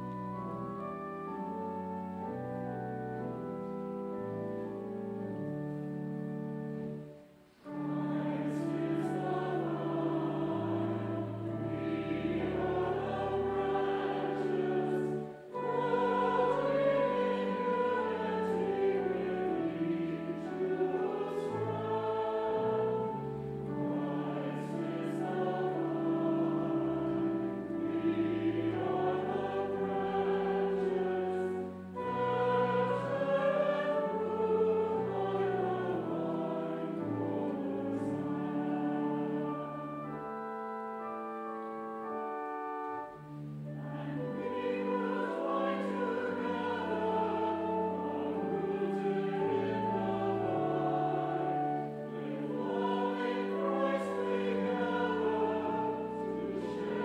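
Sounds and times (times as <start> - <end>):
choir singing held chords: 0.0 - 57.0.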